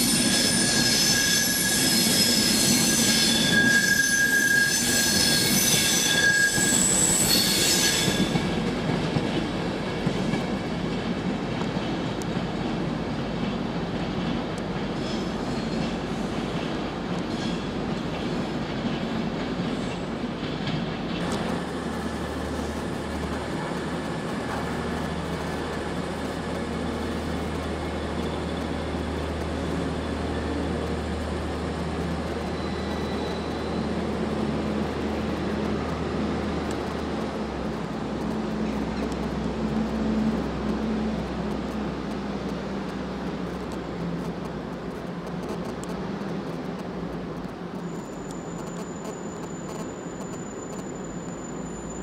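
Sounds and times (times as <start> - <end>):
train engines droning: 0.0 - 45.4, 46.0 - 52.0.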